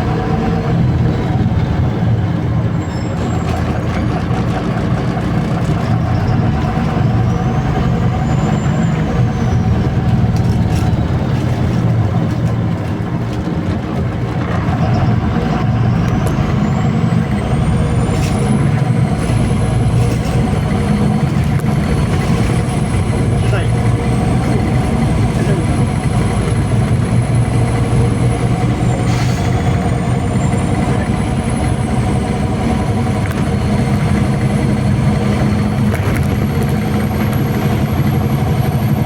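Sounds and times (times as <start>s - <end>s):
bus engine drone: 0.0s - 39.0s
road noise: 0.0s - 39.0s.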